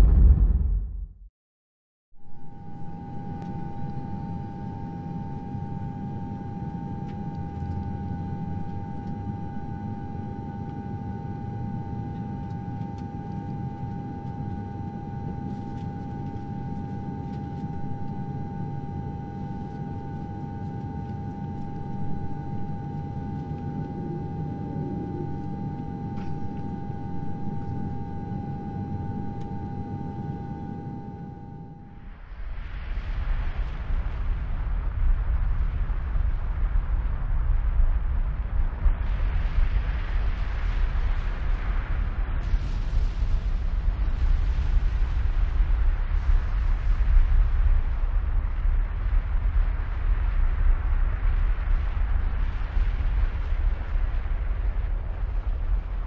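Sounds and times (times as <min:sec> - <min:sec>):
low rumbling noise: 0:00.0 - 0:01.3, 0:02.2 - 0:56.0
steady high hum: 0:02.2 - 0:56.0.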